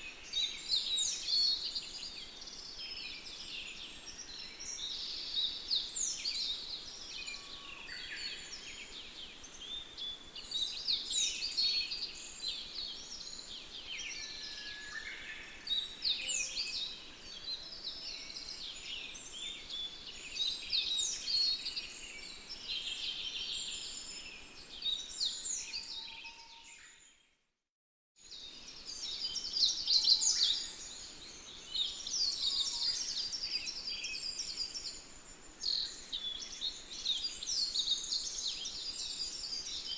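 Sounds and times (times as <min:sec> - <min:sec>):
chorus of birds singing: 0:00.0 - 0:27.2, 0:28.2 - 0:39.9.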